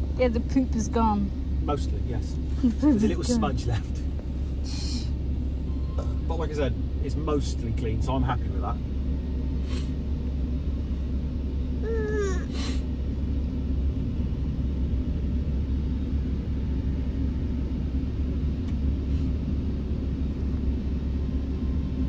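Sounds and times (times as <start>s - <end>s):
car wash machinery rumble: 0.0s - 22.0s.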